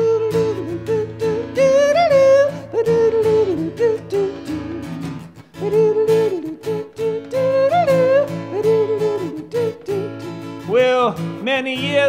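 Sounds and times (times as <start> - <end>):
man singing wordlessly: 0.0 - 12.0
strummed acoustic guitar: 0.0 - 12.0.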